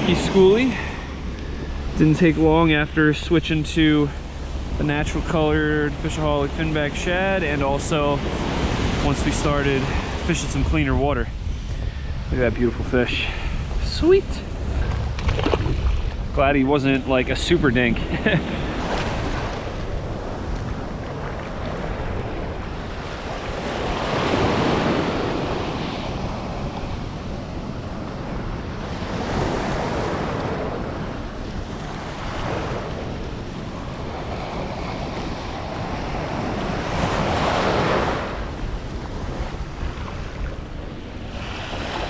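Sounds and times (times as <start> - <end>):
ocean surf washing: 0.0 - 42.0
wind rumbling on microphone: 0.0 - 42.0.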